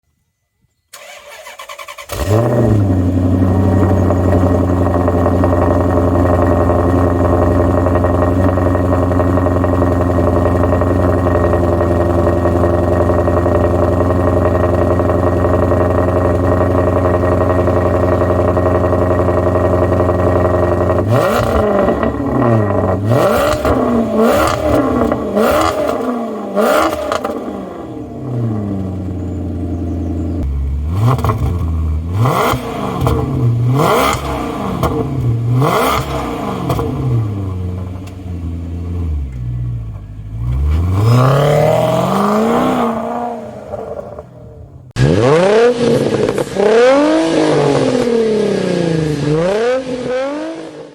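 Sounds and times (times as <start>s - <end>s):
car engine idling and revving: 1.0s - 50.9s.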